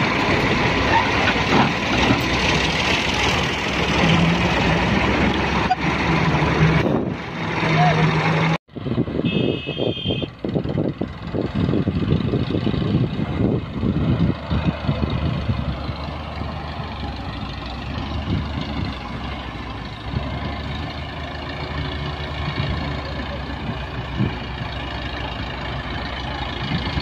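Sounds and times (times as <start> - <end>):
diesel engines working under load: 0.0 - 27.0.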